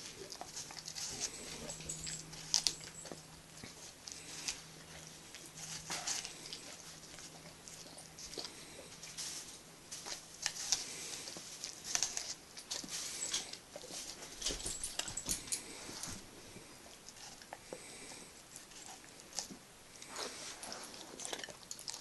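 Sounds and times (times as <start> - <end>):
dog crunching apple: 0.0 - 22.0.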